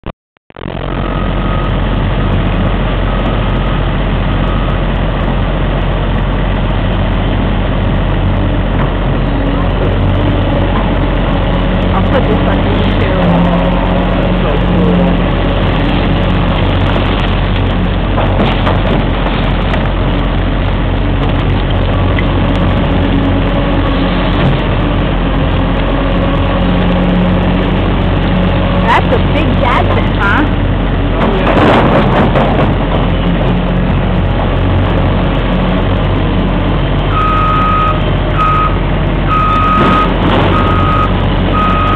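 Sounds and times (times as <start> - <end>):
diesel engine running: 0.5 - 41.9.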